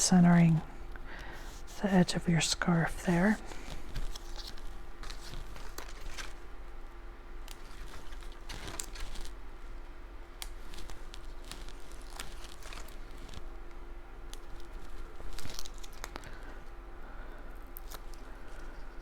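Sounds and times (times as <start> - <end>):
faint steady hum: 0.0 - 19.0
soft paper rustles: 1.2 - 16.8, 17.5 - 19.0.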